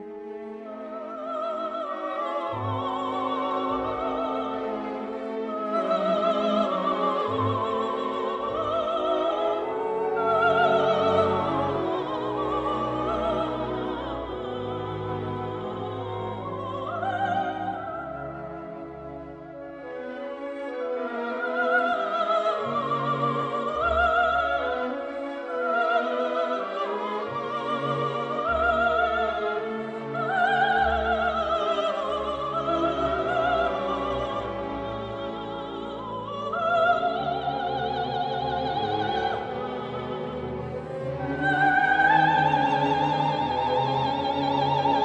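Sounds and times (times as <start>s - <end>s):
operatic singing: 0.0s - 45.0s
orchestral accompaniment: 0.0s - 45.0s.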